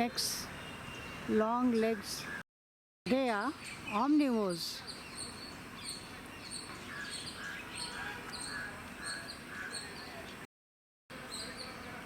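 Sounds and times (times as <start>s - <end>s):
small birds calling: 0.0s - 2.4s, 3.1s - 10.5s, 11.1s - 12.0s.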